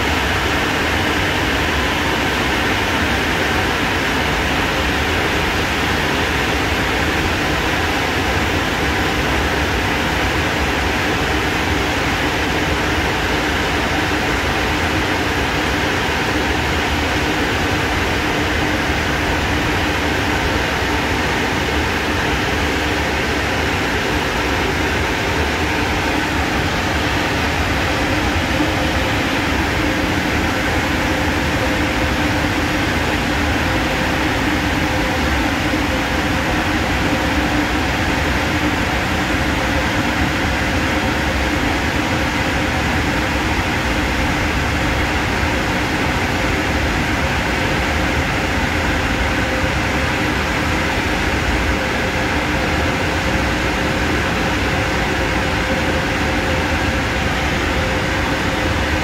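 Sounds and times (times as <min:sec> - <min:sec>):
car wash machine whirring: 0:00.0 - 0:59.0.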